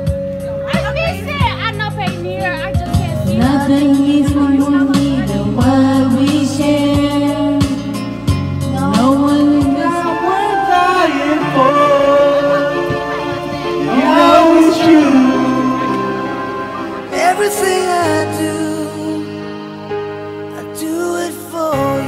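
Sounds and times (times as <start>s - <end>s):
karaoke backing track: 0.0s - 22.0s
person singing into a microphone: 2.8s - 19.4s, 20.6s - 22.0s.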